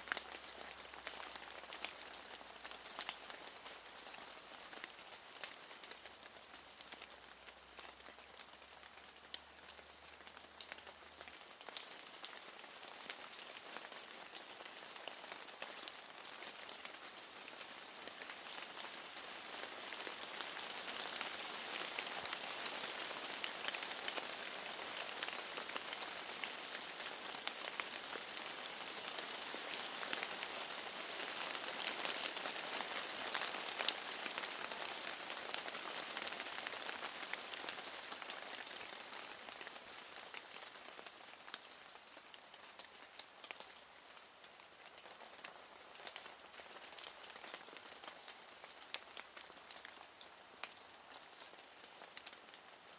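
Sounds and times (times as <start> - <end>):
rain pattering on a window: 0.0 - 52.9.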